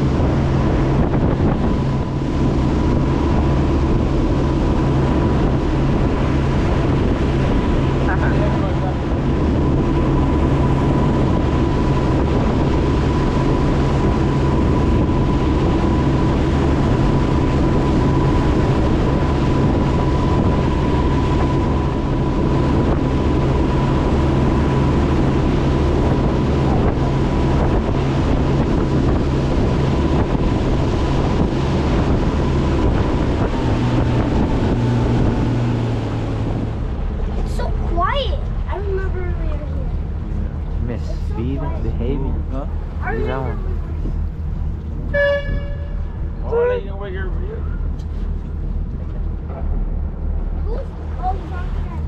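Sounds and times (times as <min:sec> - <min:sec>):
motorboat engine running: 0:00.0 - 0:52.0
wind buffeting microphone: 0:00.0 - 0:52.0.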